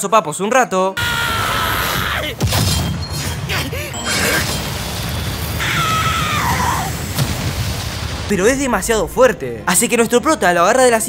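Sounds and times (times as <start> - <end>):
fight scene background music: 1.0 - 11.0.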